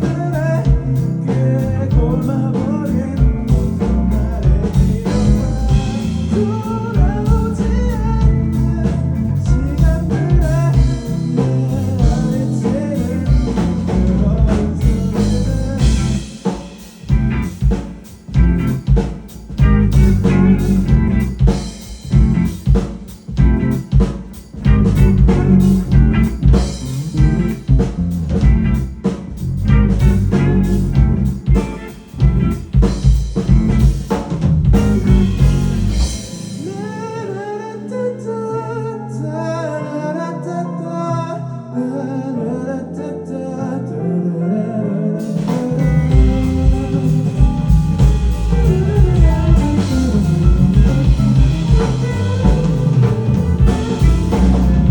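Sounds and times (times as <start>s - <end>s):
bass guitar: 0.0s - 38.0s, 45.2s - 54.9s
drums: 0.0s - 38.0s, 45.2s - 54.9s
electric guitar: 0.0s - 39.7s, 45.0s - 54.9s.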